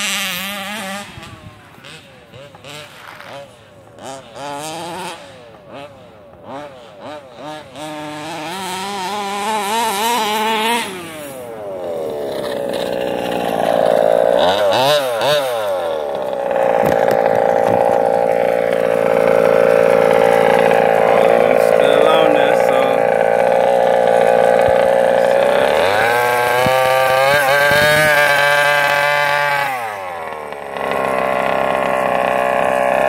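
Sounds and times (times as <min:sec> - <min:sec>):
small two-stroke engine revving: 0:00.0 - 0:33.0.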